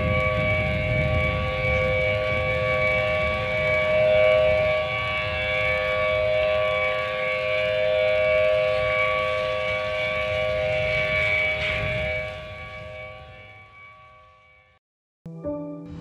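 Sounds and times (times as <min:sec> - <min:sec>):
siren steady tones: 0:00.0 - 0:14.8.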